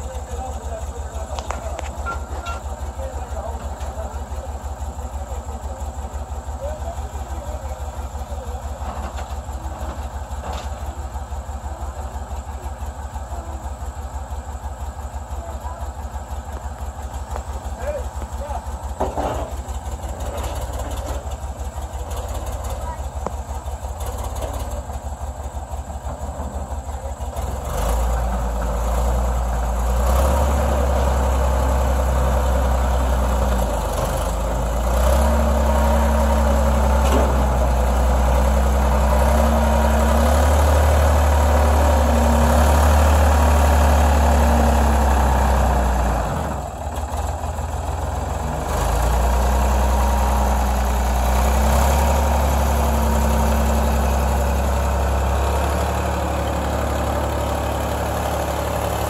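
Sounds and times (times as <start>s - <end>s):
backhoe engine idling and revving: 0.0s - 59.0s.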